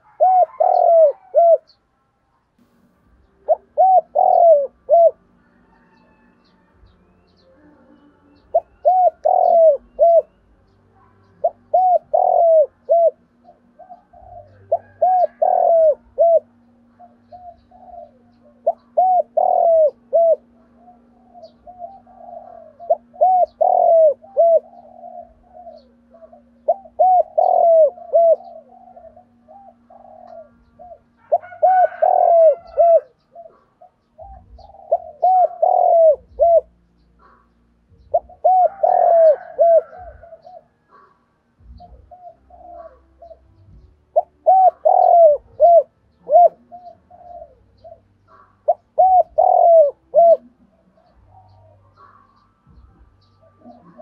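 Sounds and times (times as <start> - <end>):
dove cooing: 0.0 - 1.8, 3.3 - 6.5, 7.8 - 54.0.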